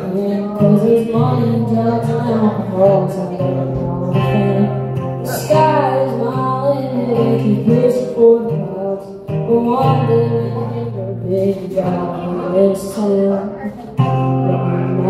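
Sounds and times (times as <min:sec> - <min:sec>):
acoustic guitar: 0:00.0 - 0:15.0
boy singing: 0:00.0 - 0:15.0.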